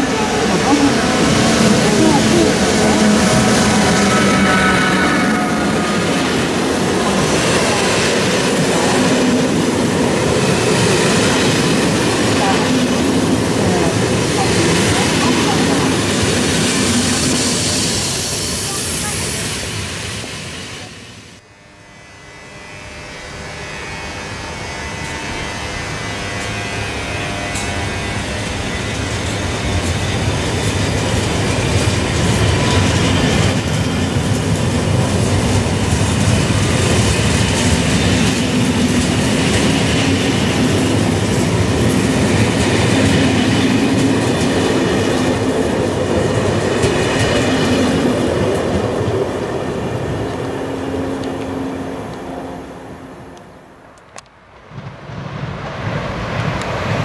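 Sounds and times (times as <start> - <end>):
train wheels rumbling on rails: 0.0 - 21.4, 22.6 - 57.0.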